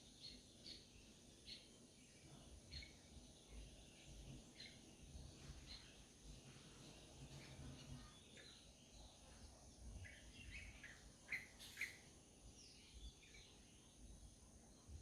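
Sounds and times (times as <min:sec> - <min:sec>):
faint bird chirps: 0:00.0 - 0:06.2, 0:06.8 - 0:15.0.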